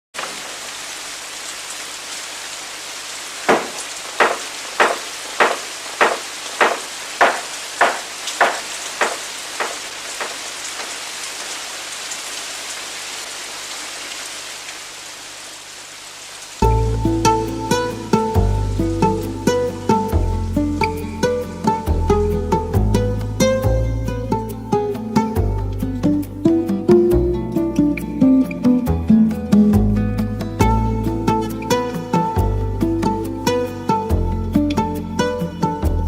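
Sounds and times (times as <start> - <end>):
rain falling: 0.2 - 36.0.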